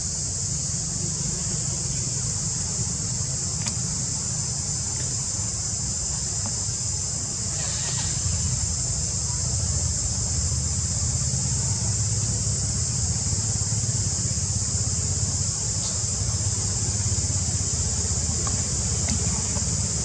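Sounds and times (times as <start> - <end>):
high-pitched insect chorus: 0.0 - 20.0
low constant rumble: 0.0 - 20.0.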